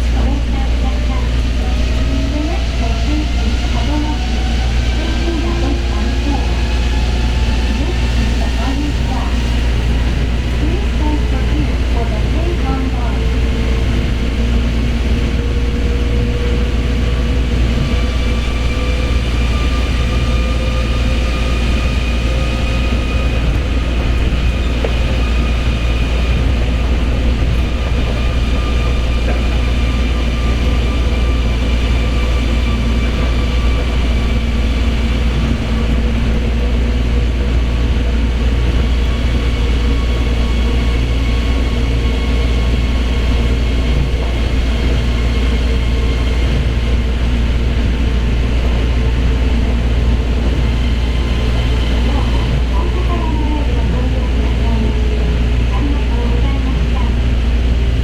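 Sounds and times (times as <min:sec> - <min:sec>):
train tyres rumbling: 0:00.0 - 0:58.0.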